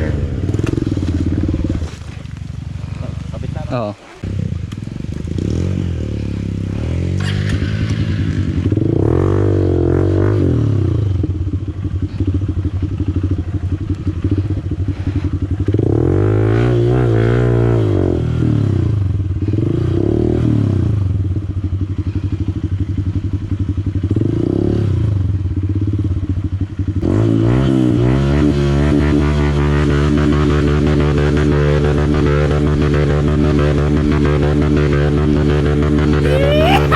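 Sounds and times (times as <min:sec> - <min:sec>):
motorcycle engine revving: 0:00.0 - 0:36.3.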